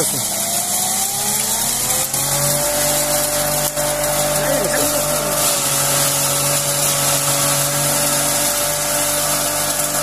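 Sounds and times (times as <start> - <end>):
crusher motor hum: 0.0 - 10.0.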